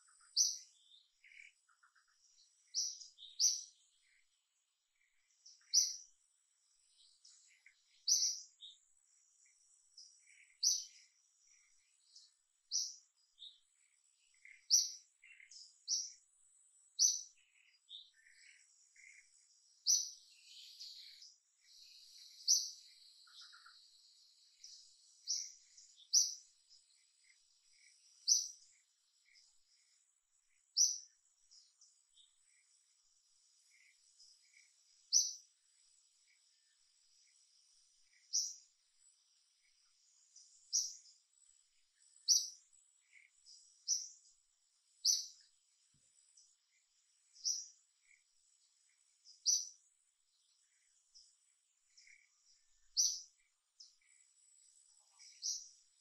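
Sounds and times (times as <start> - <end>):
other birds calling: 0.0 - 56.0
songbird chirping: 0.0 - 56.0.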